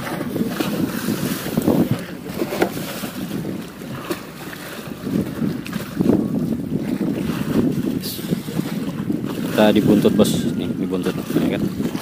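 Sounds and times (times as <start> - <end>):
water lapping at boat hull: 0.0 - 12.0
wind buffeting microphone: 0.0 - 12.0.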